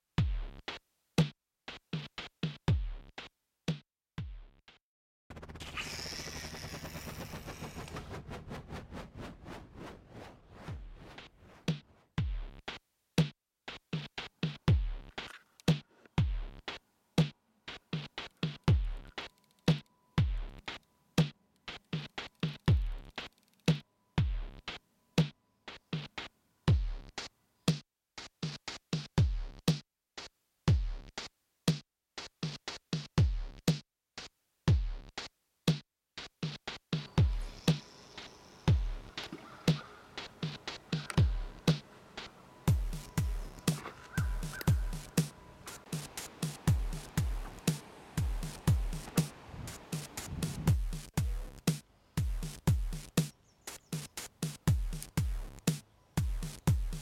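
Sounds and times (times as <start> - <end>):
electronic music with drum-machine beat: 0.2 - 8.2, 10.8 - 31.3, 32.2 - 57.0.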